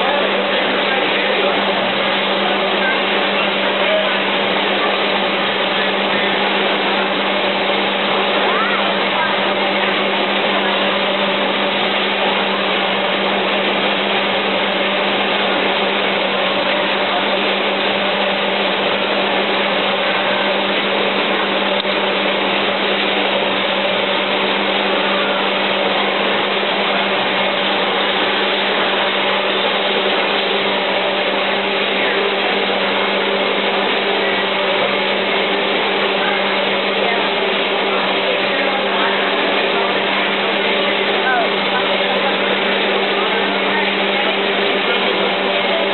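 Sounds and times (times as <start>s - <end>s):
motor or fan whirring hum: 0.0s - 45.9s.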